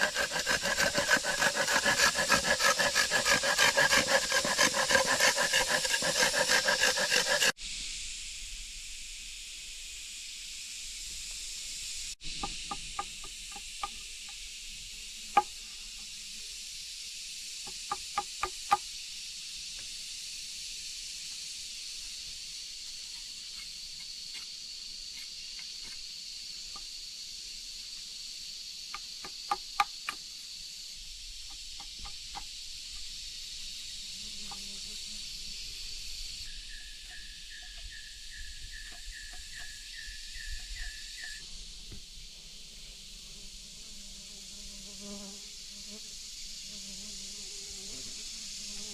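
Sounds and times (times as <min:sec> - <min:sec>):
high insect drone: 0:00.0 - 0:48.9.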